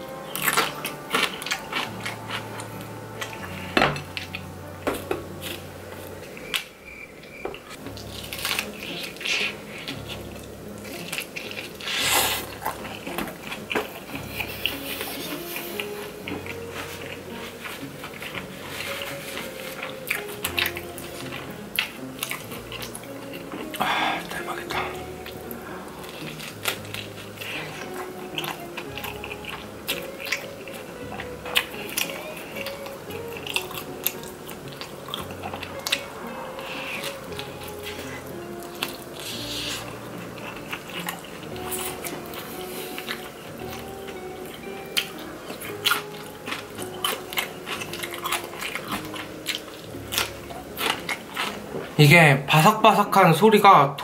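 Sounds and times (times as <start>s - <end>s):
crust crunching: 0.0s - 52.0s
biting and chewing pizza: 0.0s - 54.0s.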